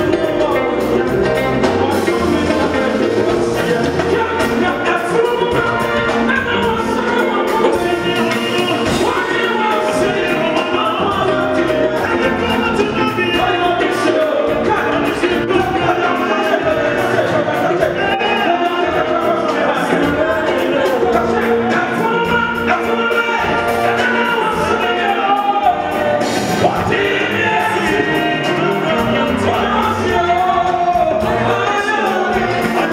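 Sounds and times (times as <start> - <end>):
gospel band playing: 0.0 - 32.9
men singing: 0.0 - 32.9.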